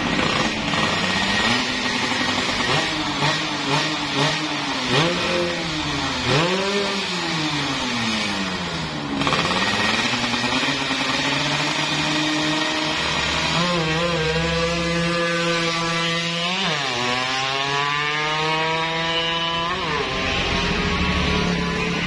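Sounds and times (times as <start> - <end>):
two-stroke motorcycle accelerating: 0.0 - 22.0.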